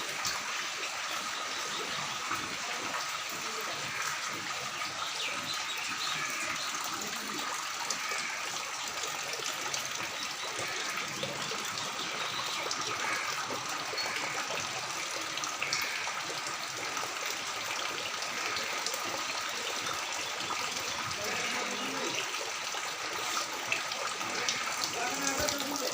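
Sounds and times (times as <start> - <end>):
floodwater gushing: 0.0 - 25.9.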